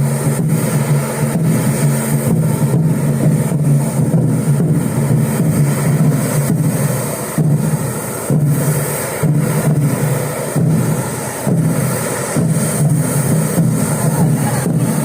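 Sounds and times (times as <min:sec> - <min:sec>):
fireworks spraying roar: 0:00.0 - 0:15.0.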